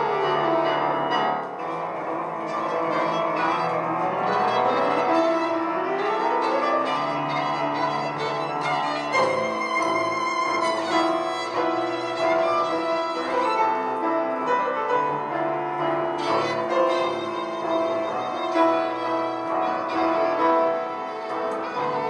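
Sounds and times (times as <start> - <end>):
piano: 0.0 - 22.0
violin long held notes: 0.0 - 22.0.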